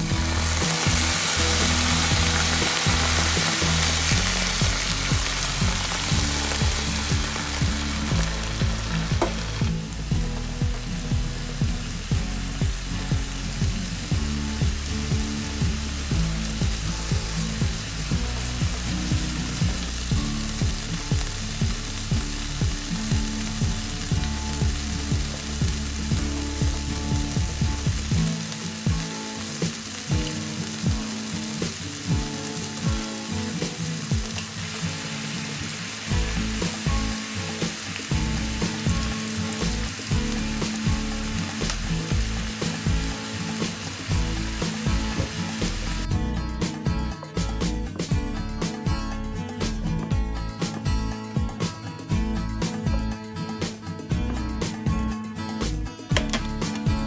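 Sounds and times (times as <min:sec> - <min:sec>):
onions sizzling in a frying pan: 0:00.0 - 0:47.7.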